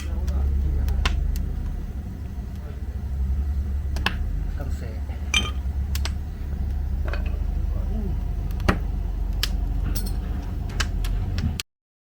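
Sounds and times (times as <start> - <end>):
low rumble: 0.0 - 11.6.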